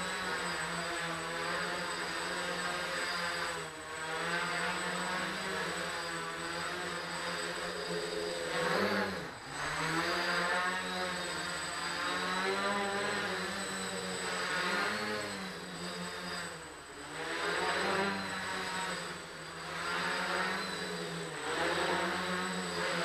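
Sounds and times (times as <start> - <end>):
quadcopter propellers buzzing: 0.0 - 23.0.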